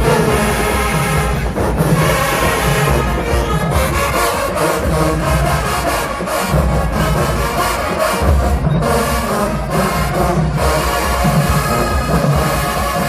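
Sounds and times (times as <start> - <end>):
marching band brass: 0.0 - 13.0.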